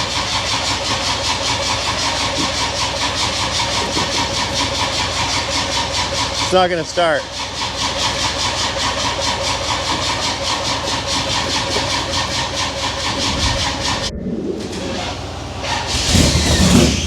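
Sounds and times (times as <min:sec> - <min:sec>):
engine cranking by starter: 0:00.0 - 0:17.0
low engine rumble: 0:00.0 - 0:17.0.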